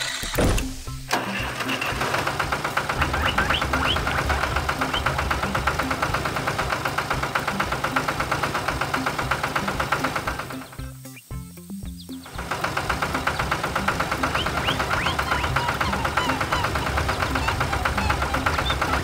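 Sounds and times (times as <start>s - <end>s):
tractor engine chugging: 1.1s - 11.3s, 11.9s - 19.0s.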